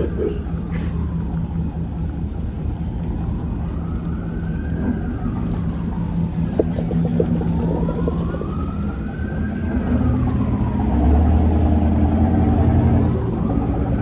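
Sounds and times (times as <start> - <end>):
emergency vehicle siren wailing: 0.0 - 14.0
low engine rumble: 0.0 - 14.0.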